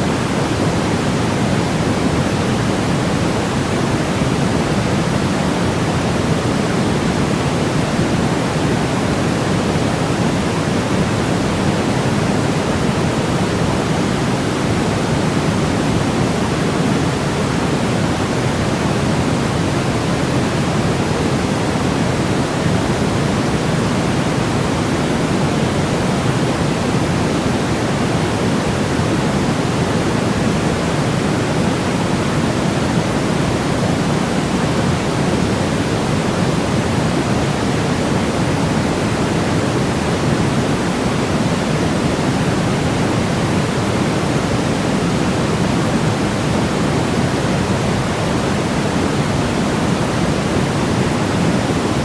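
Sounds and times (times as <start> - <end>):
steady low white noise hiss: 0.0 - 52.0.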